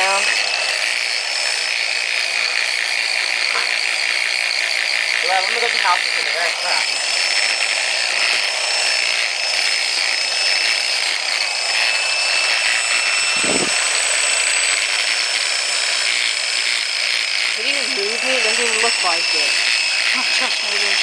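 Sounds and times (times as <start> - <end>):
lathe whining: 0.0 - 21.0.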